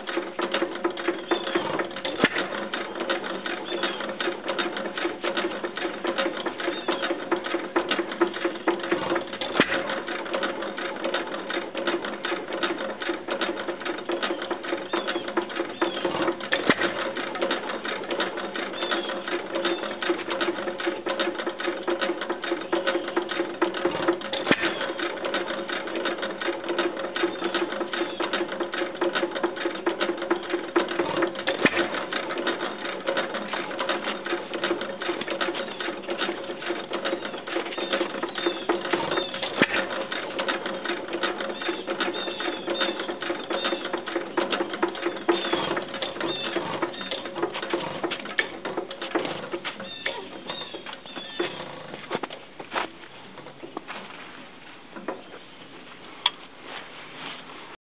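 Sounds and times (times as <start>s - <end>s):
engine knocks: 0.0s - 56.4s
gas engine clattering: 0.0s - 56.8s.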